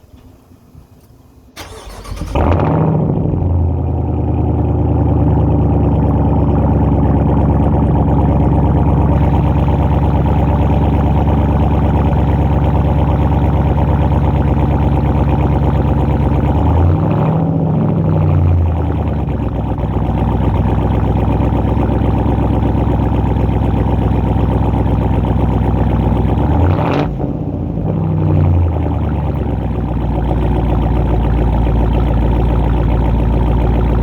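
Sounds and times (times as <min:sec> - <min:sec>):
car engine revving and idling: 0:01.6 - 0:34.0.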